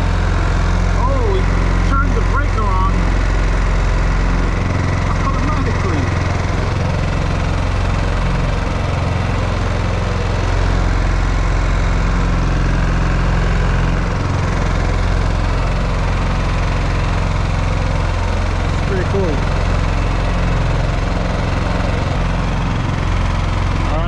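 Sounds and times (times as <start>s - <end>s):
generator engine hum: 0.0s - 24.0s.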